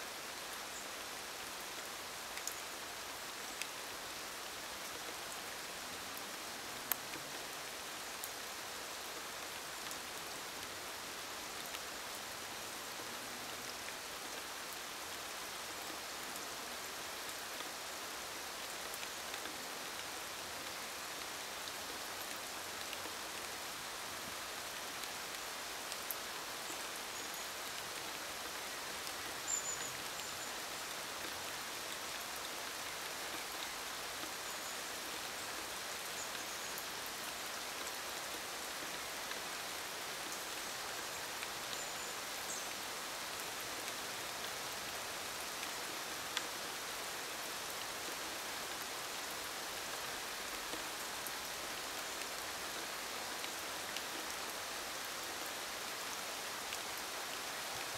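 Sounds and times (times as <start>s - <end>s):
rain falling on leaves: 0.0s - 57.9s.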